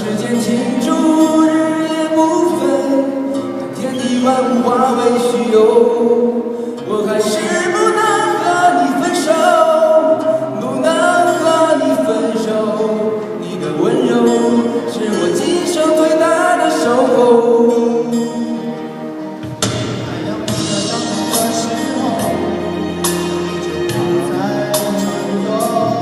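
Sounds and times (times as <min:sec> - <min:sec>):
voices singing in harmony: 0:00.0 - 0:19.2, 0:20.1 - 0:26.0.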